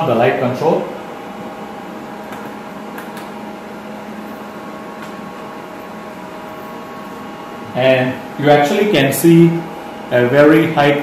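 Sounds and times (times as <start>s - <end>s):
electrical hum and fan whir: 0.0s - 11.0s.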